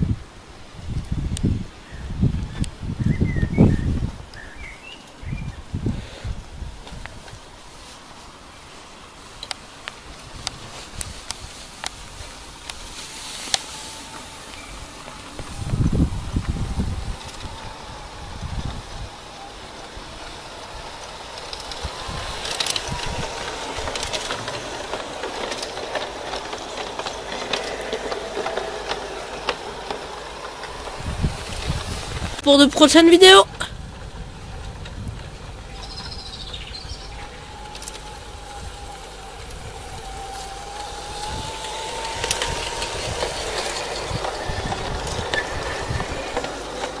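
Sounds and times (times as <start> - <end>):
wheels clicking over rail joints: 0.0 - 47.0
model train motor hum: 5.6 - 47.0.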